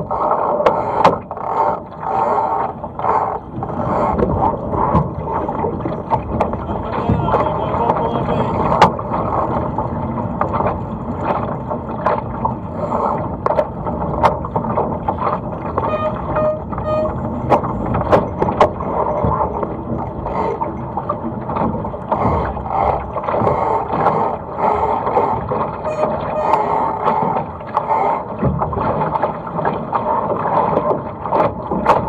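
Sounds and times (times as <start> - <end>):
water splashing against hull: 0.0 - 32.0.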